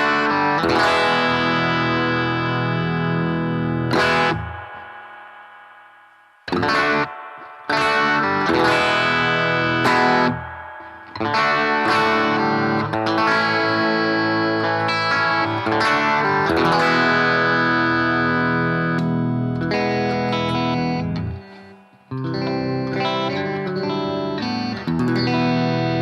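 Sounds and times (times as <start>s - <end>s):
electric guitar chords: 0.0s - 26.0s.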